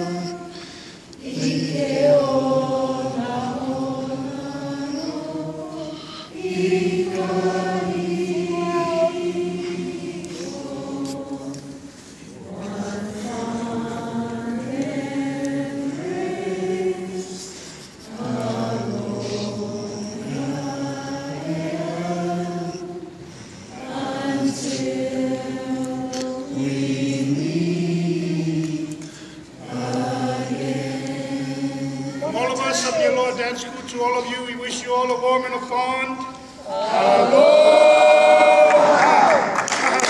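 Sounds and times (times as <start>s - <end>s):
group singing slow song: 0.0s - 32.9s, 36.2s - 40.0s.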